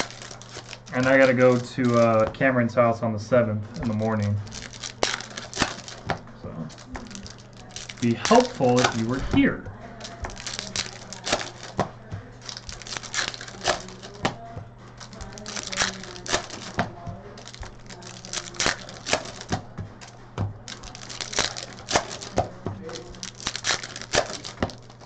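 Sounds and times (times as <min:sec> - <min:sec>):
cards clicking and rustling: 0:00.0 - 0:02.6, 0:03.8 - 0:25.0
wrappers crinkling and tearing: 0:00.0 - 0:02.6, 0:03.7 - 0:25.0
steady low hum: 0:00.0 - 0:25.0.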